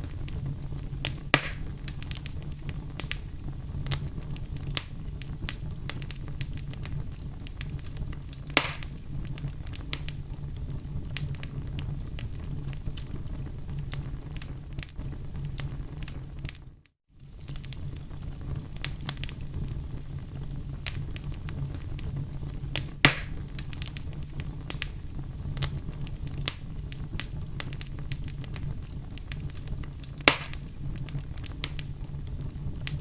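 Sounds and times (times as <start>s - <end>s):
campfire crackling: 0.0s - 33.0s
low rumble of flames: 0.0s - 33.0s.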